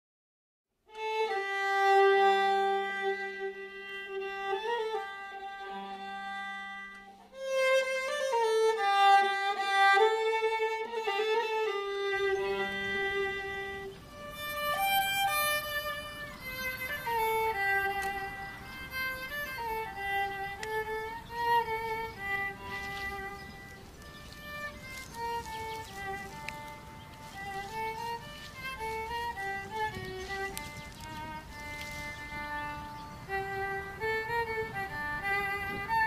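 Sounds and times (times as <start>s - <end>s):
faint low hiss: 0.7s - 36.0s
violin playing slow melody: 0.9s - 36.0s.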